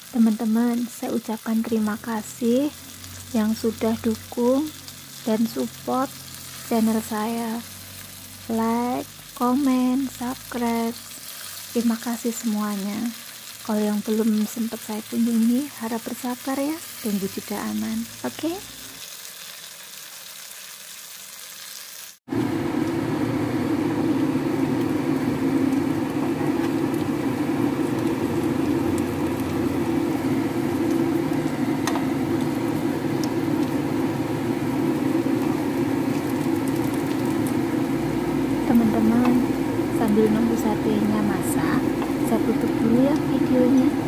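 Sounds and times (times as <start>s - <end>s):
food sizzling in frying pan: 0.0s - 44.0s.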